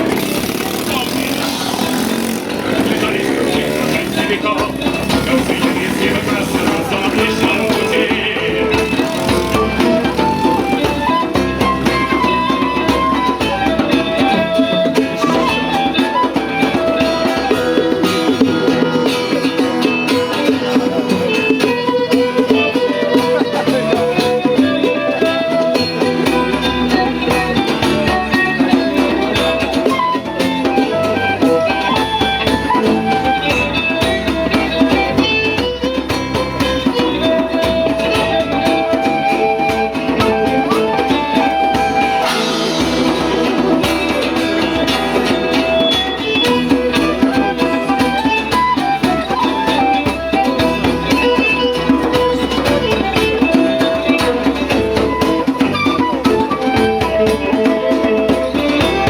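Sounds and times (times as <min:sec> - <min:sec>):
live band with guitar and drums: 0:00.0 - 0:59.0.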